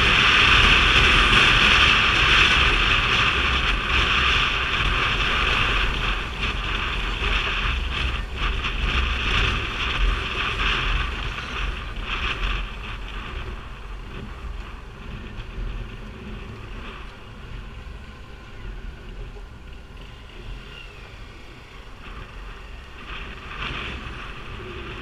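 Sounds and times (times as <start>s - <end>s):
motorcycle rumble: 0.0s - 25.0s
wind rushing over microphone: 0.0s - 25.0s.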